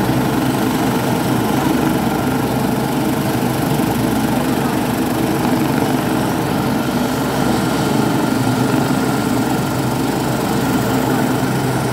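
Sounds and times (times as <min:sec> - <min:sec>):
helicopter turbine and rotors: 0:00.0 - 0:11.9.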